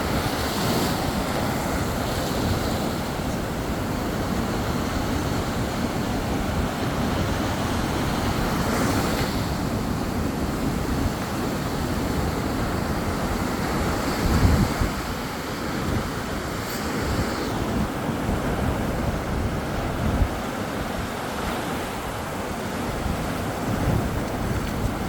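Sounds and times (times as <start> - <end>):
sea waves washing onto shore: 0.0 - 25.0
wind buffeting microphone: 0.0 - 25.0.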